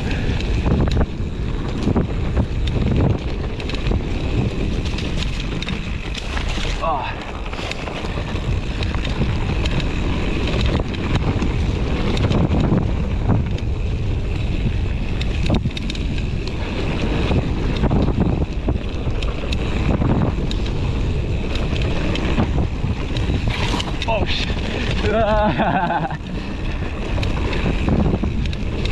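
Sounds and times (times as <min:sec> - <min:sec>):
bike clicks and rattles: 0:00.0 - 0:28.9
bike tyres rumbling on dirt: 0:00.0 - 0:28.9
wind buffeting microphone: 0:00.0 - 0:28.9.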